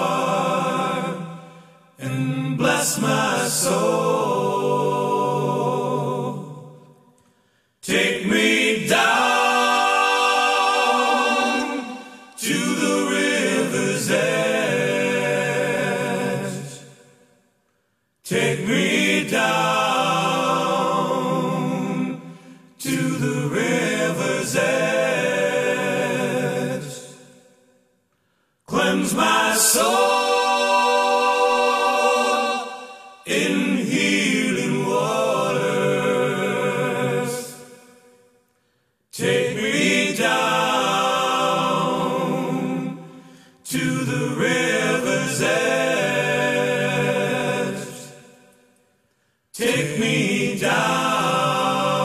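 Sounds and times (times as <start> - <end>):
voices singing in harmony: 0.0 - 28.0, 28.7 - 52.0.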